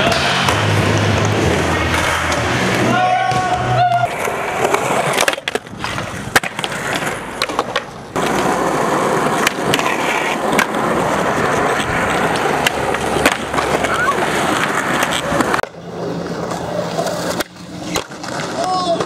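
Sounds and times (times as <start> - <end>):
skateboard clacking on ground: 0.0 - 19.0
skateboard wheels rolling on concrete: 0.0 - 19.0.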